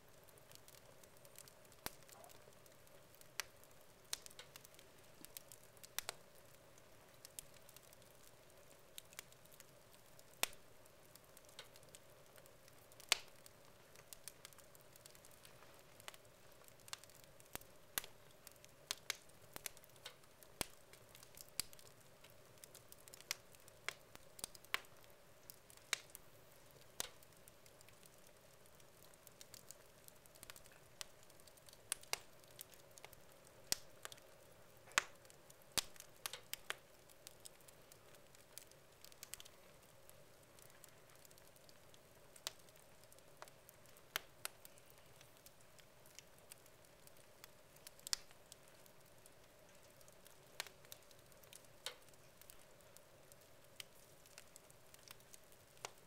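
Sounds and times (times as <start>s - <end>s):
logs crackling in a fireplace: 0.0s - 56.0s.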